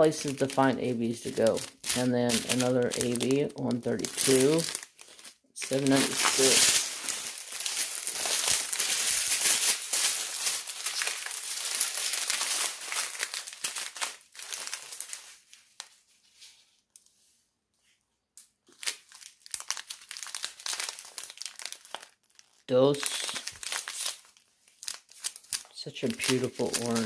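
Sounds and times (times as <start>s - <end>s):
plastic bags crinkling: 0.0s - 16.0s, 18.7s - 27.0s.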